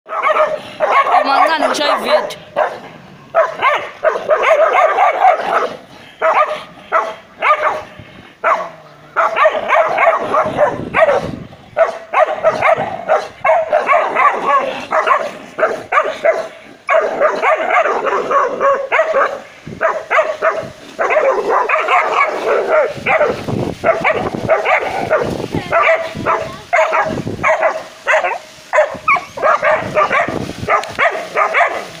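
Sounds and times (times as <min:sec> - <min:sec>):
dogs barking aggressively: 0:00.1 - 0:32.0.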